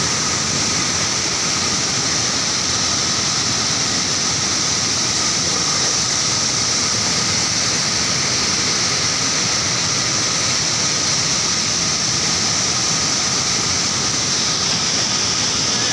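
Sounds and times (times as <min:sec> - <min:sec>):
floodwater rushing: 0:00.0 - 0:15.9.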